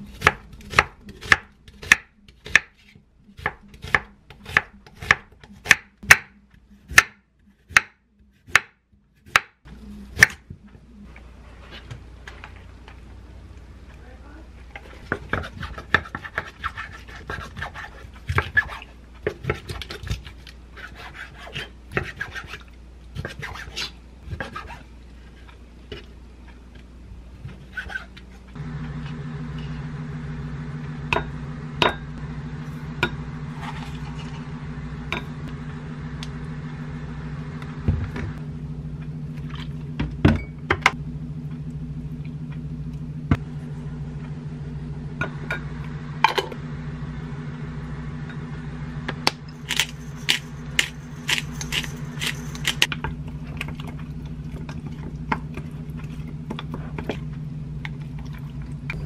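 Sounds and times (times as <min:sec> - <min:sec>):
low hum: 0:00.0 - 0:21.9, 0:23.9 - 0:59.0.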